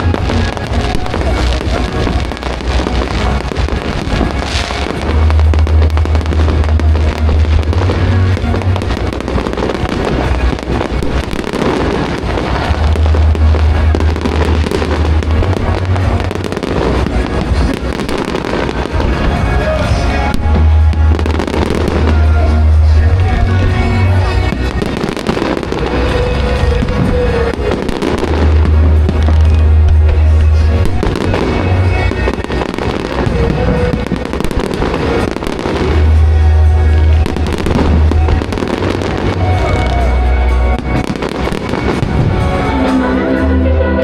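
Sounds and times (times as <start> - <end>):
fireworks bangs and crackling: 0.0 - 43.2
heavy low rumble: 0.0 - 44.0
music playing: 0.0 - 44.0.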